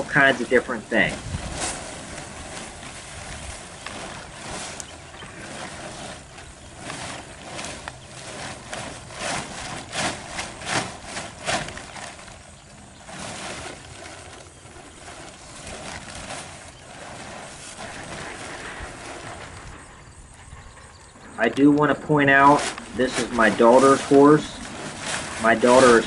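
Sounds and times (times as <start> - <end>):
plastic tarp rustling and crackling: 0.0 - 26.0.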